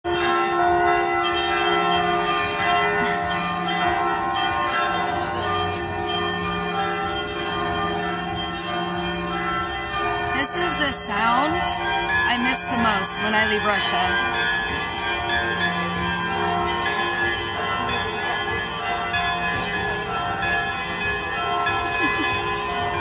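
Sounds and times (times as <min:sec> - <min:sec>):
church bells pealing: 0:00.1 - 0:23.0.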